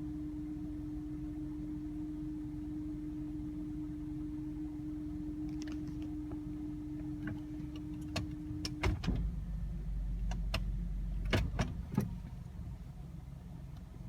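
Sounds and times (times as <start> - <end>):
low rumble: 0.0 - 14.0
steady humming tone: 0.0 - 14.0.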